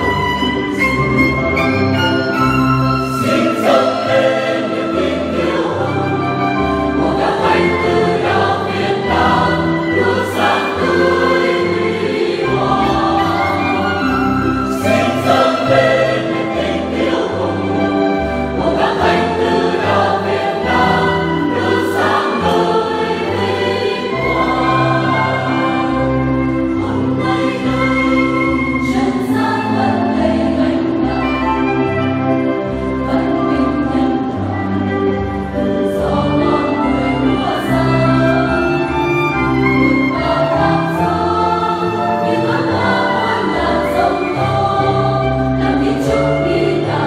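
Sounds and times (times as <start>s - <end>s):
mixed choir singing a hymn: 0.0s - 47.0s
violin: 0.0s - 47.0s.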